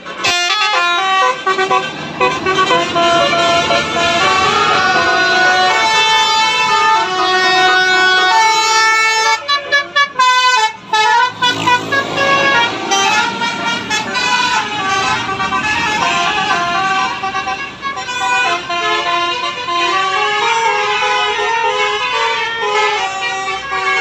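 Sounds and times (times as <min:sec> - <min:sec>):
multi-trumpet bus horn tune: 0:00.0 - 0:24.0.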